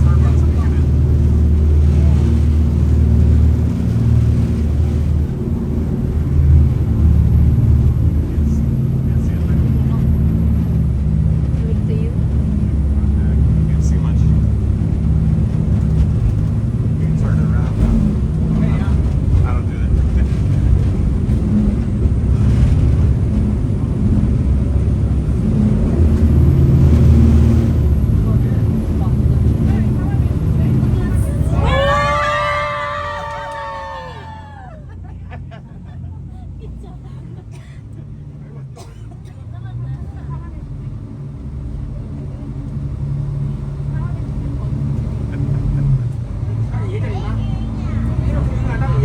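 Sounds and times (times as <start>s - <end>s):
boat engines rumbling: 0.0s - 49.0s.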